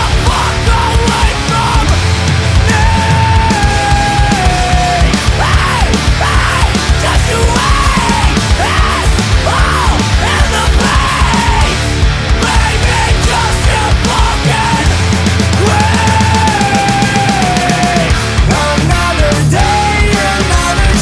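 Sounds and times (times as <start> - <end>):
heavy rock music: 0.0 - 21.0.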